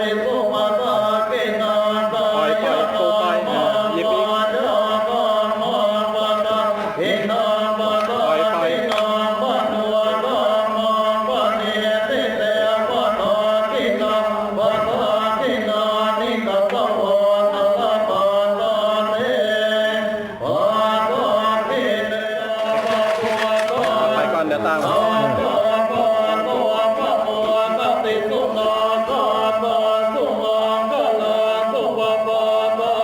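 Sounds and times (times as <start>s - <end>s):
group chanting: 0.0s - 33.0s.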